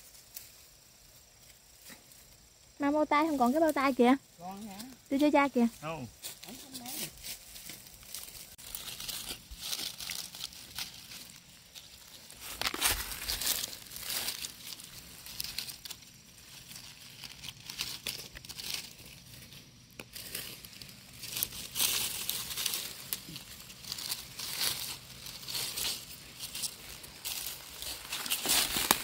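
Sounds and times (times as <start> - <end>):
dry leaves rustling and crunching: 4.5 - 29.0.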